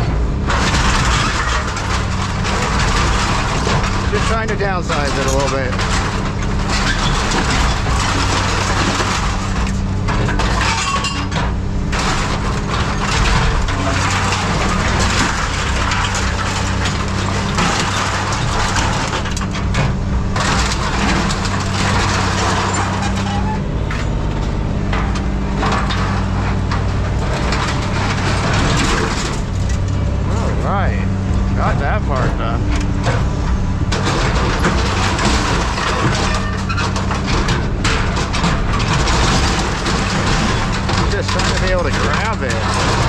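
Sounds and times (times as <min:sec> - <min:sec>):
heavy machine engine running: 0:00.0 - 0:43.0
scrap metal crushing: 0:00.0 - 0:43.0.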